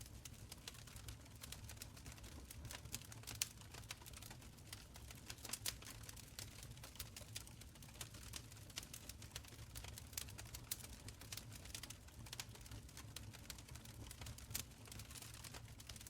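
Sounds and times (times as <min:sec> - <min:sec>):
faint low rumble of flames: 0:00.0 - 0:16.0
wood fire crackling: 0:00.0 - 0:16.0.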